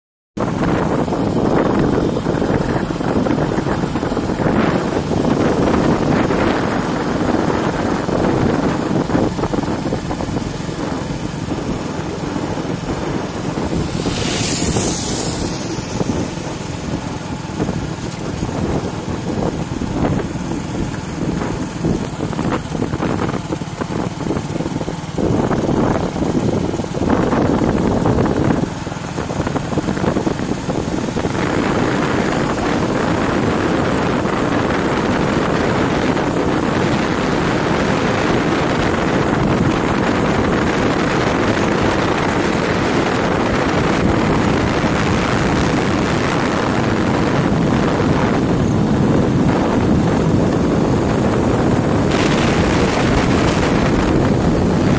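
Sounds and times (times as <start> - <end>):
motorcycle engine: 0.4 - 54.9
road noise: 0.4 - 54.9
wind rushing over microphone: 0.4 - 54.9.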